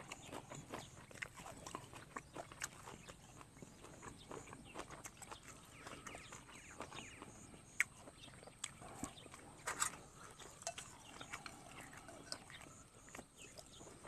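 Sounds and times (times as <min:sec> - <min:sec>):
chewing and lip-smacking: 0:00.0 - 0:14.0.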